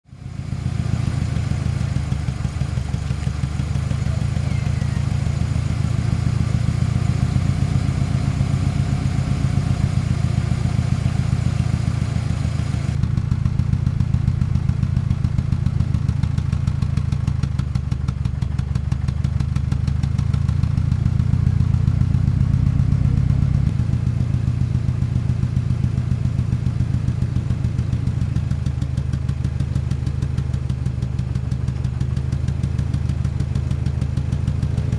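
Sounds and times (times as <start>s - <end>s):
car engine idling roughly: 0.1s - 34.9s.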